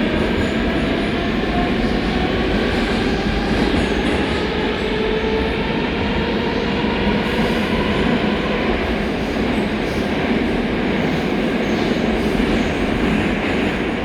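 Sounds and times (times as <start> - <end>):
metro wheels rumbling on rail: 0.0 - 14.0.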